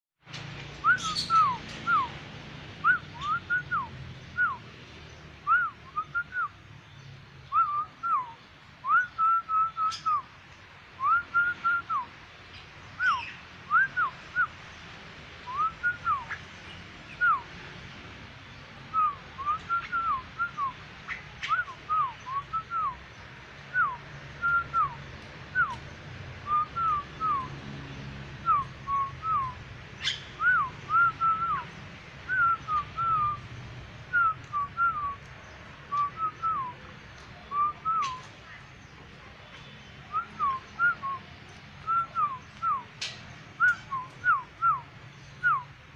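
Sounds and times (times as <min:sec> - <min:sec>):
starling singing whistled notes: 0:00.7 - 0:02.2, 0:02.8 - 0:10.4, 0:11.0 - 0:17.6, 0:18.4 - 0:45.9.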